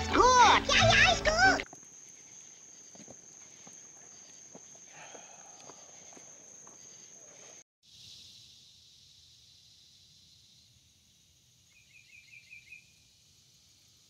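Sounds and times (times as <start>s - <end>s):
woodland ambience hiss: 0.0s - 14.0s.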